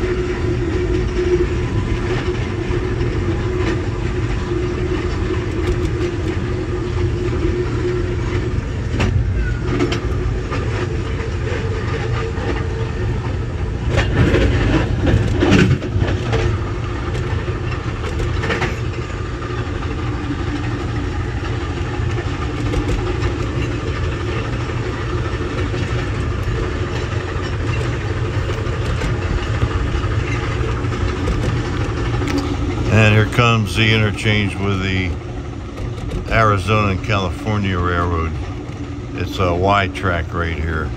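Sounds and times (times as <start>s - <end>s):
train clattering: 0.0s - 40.9s
train wheels rumbling on track: 0.0s - 40.9s
sharp clicks of rails: 0.7s - 40.9s.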